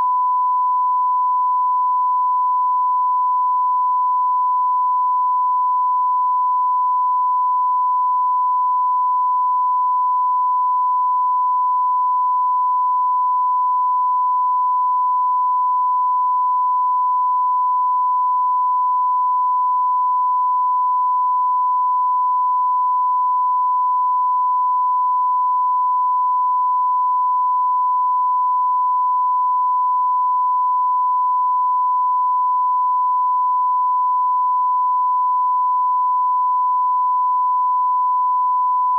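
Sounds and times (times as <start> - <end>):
steady test tone beep: 0.0 - 38.9.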